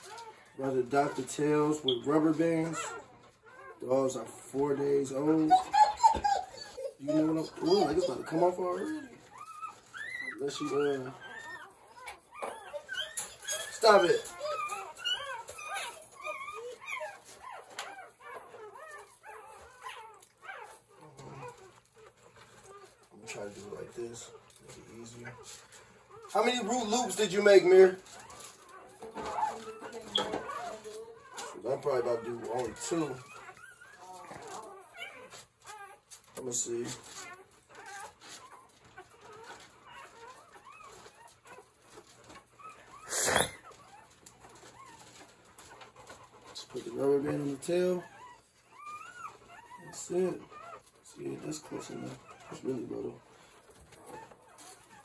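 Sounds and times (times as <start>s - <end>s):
puppy whimpering: 0.0s - 55.0s.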